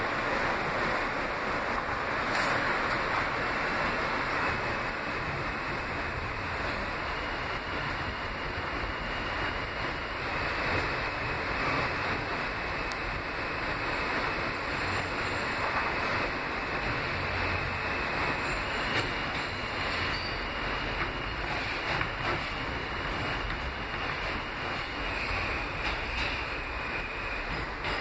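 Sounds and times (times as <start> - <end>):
subway train running through tunnel: 0.0 - 28.0.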